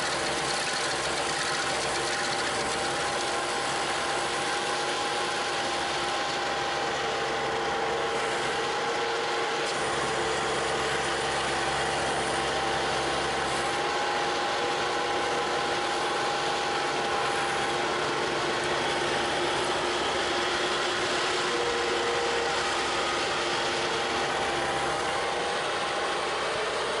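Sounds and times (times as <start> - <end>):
track loader diesel engine running: 0.0 - 27.0.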